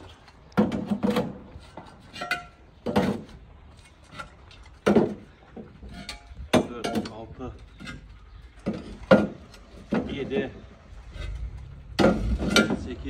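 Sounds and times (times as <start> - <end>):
bricks clunking into wheelbarrow: 0.0 - 13.0.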